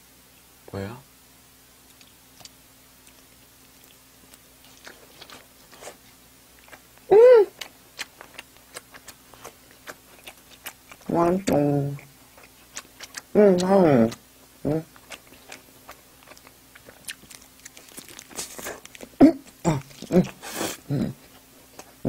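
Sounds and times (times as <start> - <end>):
chewing with wet mouth clicks: 1.8 - 14.2, 14.8 - 22.0.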